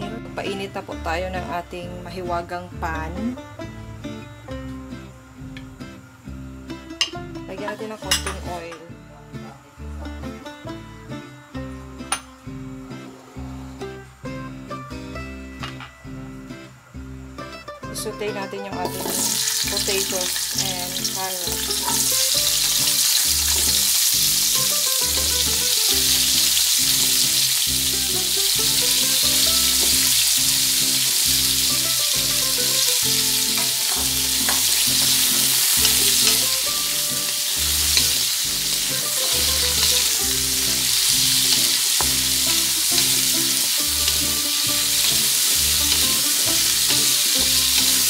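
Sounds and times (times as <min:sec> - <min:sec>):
vegetables sizzling in oil: 0:00.0 - 0:48.0.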